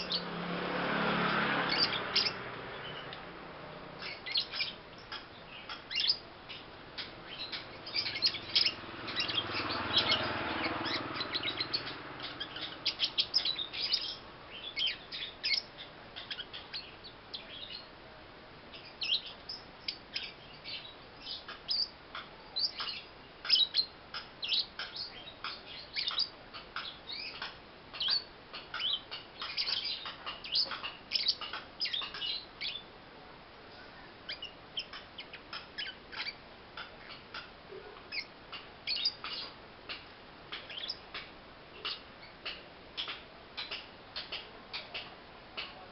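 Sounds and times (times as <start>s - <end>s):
lovebird chirping: 0.0s - 0.3s, 1.6s - 3.2s, 3.9s - 17.9s, 18.7s - 33.0s, 33.7s - 45.1s.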